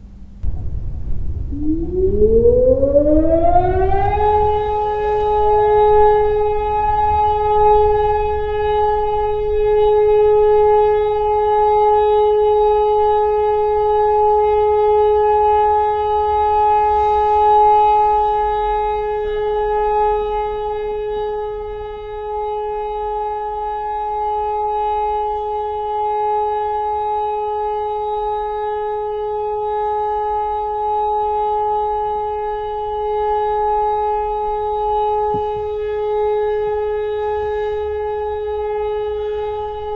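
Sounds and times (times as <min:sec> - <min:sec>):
siren steady tone: 0:00.4 - 0:39.9.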